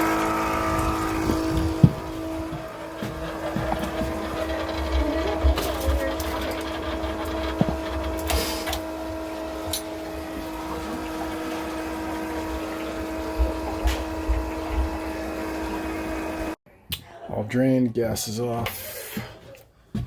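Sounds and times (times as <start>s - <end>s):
electric pump humming: 0.0s - 16.6s
water flowing: 0.0s - 16.6s.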